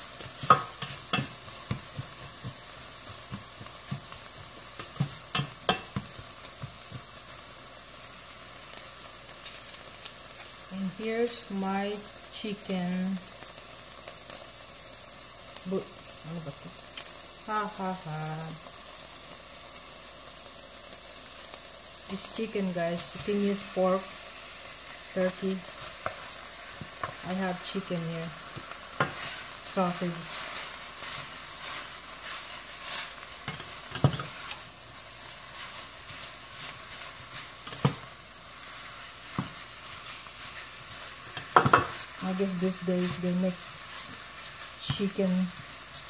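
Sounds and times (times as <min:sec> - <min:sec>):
vegetables sizzling in a pan: 0:00.0 - 0:46.0.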